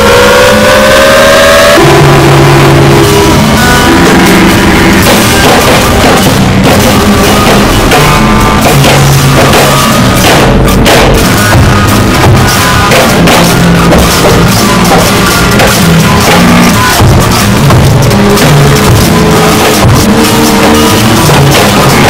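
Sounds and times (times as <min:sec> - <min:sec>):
harsh distorted noise music: 0:00.0 - 0:22.0
low droning notes: 0:00.0 - 0:22.0.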